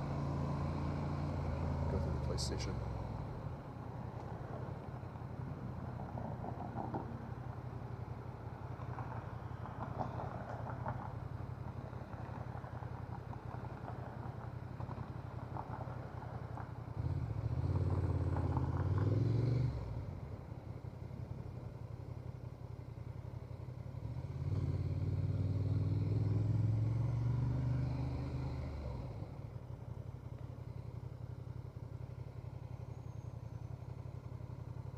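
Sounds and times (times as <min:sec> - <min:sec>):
motorcycle engine accelerating: 0:00.0 - 0:08.7, 0:10.9 - 0:34.9.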